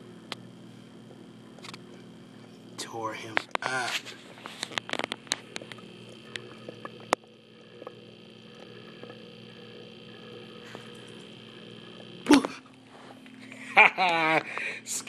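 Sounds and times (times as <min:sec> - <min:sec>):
aquarium hum: 0:00.0 - 0:15.0.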